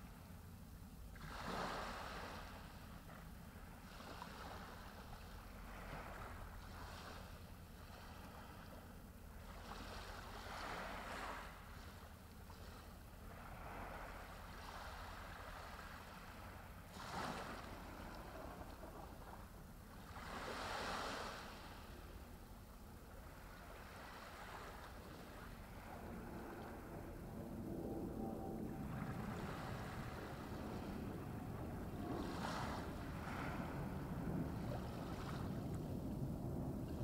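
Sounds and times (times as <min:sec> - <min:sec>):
waves washing up a beach: 0:01.1 - 0:27.8, 0:28.5 - 0:37.0.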